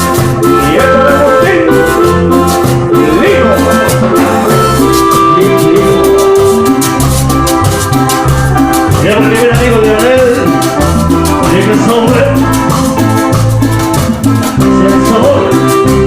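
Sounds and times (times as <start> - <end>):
cumbia band music: 0.0 - 16.0.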